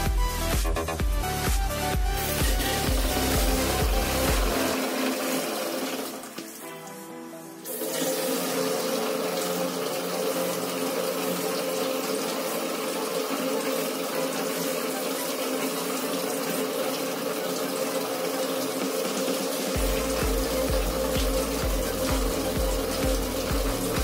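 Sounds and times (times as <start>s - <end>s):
water gushing from a hose: 2.1s - 6.9s, 7.6s - 24.0s.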